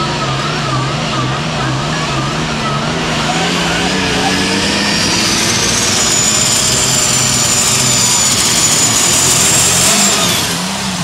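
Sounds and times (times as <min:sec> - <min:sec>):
high whistle: 0:00.0 - 0:10.5
tractor engine running under load: 0:00.0 - 0:11.0.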